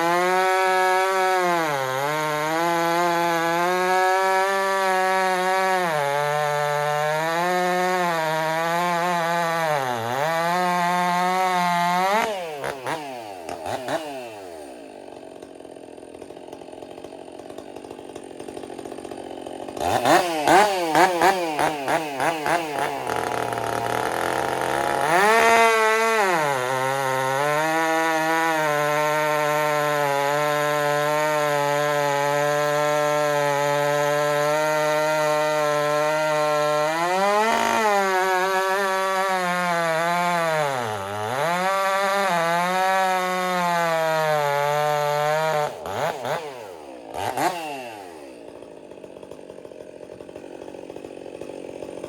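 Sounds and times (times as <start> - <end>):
chainsaw revving and idling: 0.0 - 52.0.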